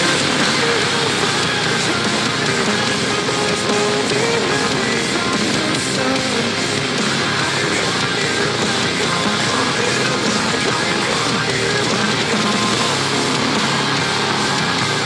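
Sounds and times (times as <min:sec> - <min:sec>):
metalcore song: 0:00.0 - 0:15.0
person singing: 0:00.0 - 0:15.0.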